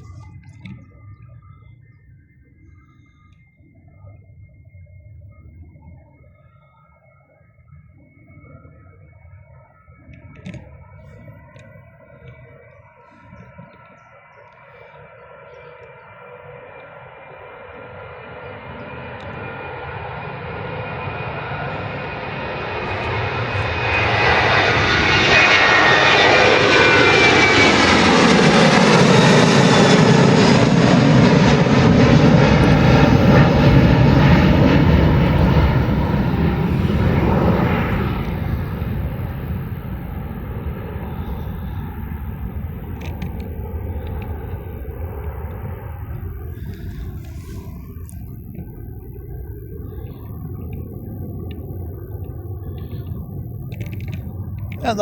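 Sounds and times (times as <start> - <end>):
jet engines at takeoff power: 0.0 - 55.0.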